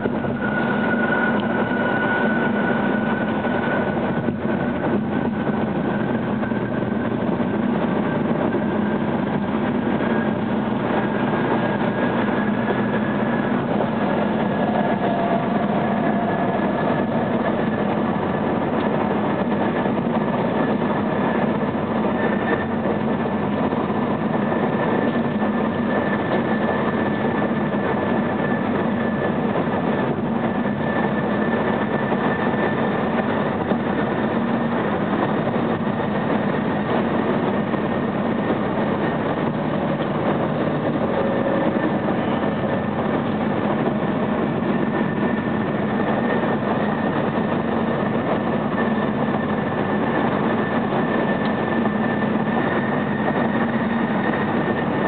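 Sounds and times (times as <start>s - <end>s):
faint high whine: 0.0s - 55.0s
road and engine noise in car: 0.0s - 55.0s.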